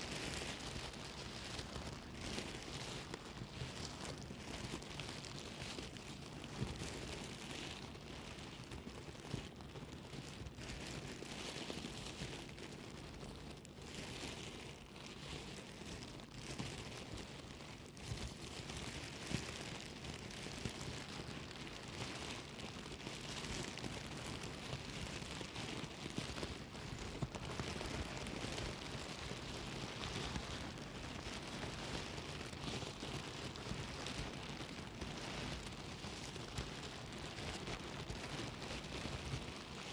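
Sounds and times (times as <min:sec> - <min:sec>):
plastic bag crumpling: 0:00.0 - 0:39.9.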